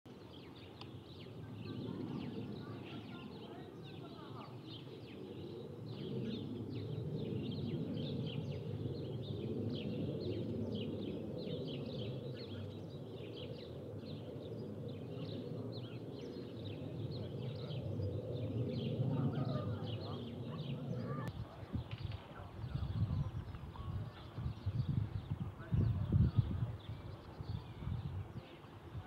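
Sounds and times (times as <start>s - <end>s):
distant jet airliner rumble: 0.1s - 29.0s
small birds chirping: 0.1s - 29.0s.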